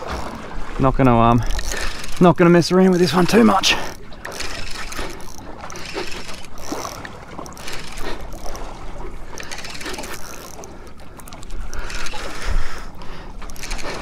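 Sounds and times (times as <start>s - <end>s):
water slapping against boat: 0.0s - 14.0s
fishing reel clicking: 1.4s - 8.6s, 9.3s - 14.0s.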